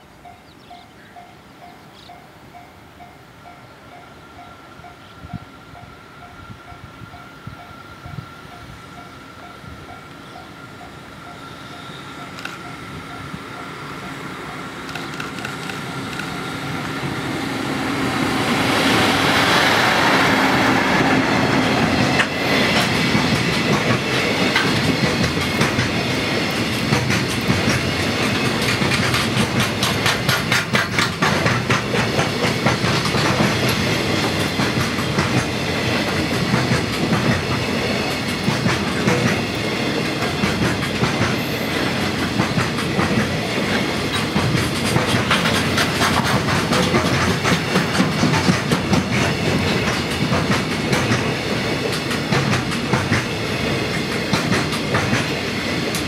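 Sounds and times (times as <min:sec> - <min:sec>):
electric locomotive passing: 0:00.0 - 0:56.0
train wheels clickety-clack: 0:06.2 - 0:56.0.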